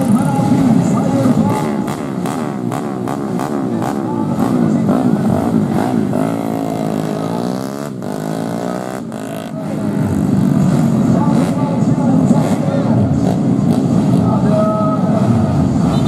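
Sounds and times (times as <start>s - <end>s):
race motorcycles passing: 0.0s - 16.0s.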